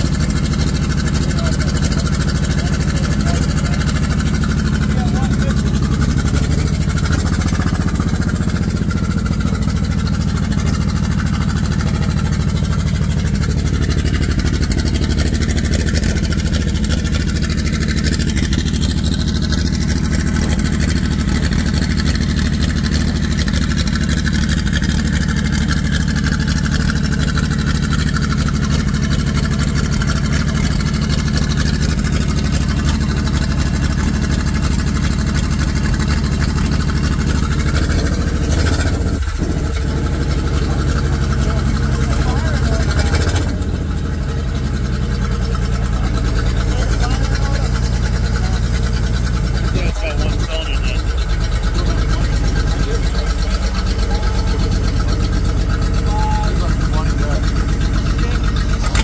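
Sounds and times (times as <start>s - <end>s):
race car engine idling: 0.0s - 59.0s.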